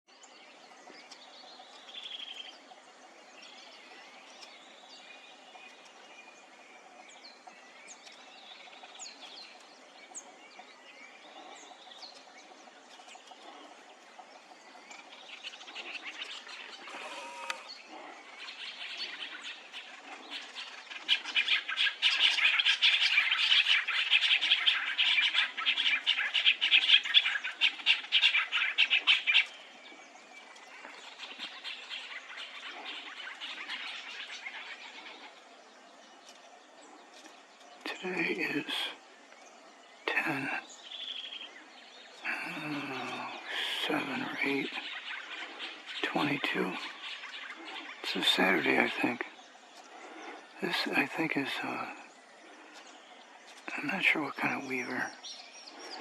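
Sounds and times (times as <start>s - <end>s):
birds chattering fast: 0.1s - 56.0s
small birds chirping and whistling: 0.1s - 56.0s.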